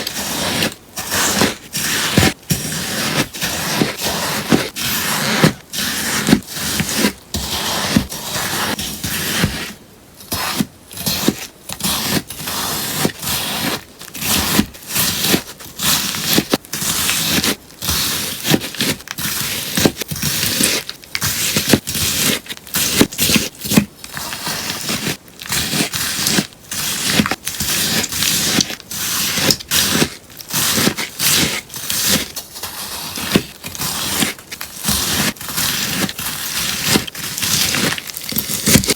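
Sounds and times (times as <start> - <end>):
crunchy slime being cut: 0.0 - 38.9.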